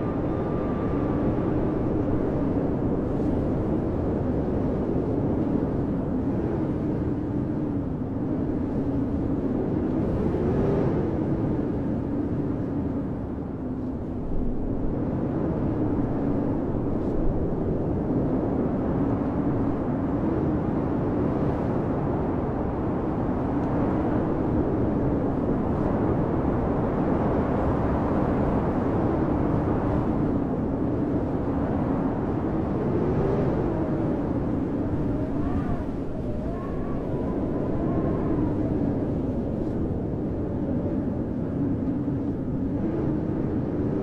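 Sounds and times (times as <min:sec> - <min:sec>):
blizzard wind blowing: 0:00.0 - 0:44.0
wind whistling: 0:00.0 - 0:44.0.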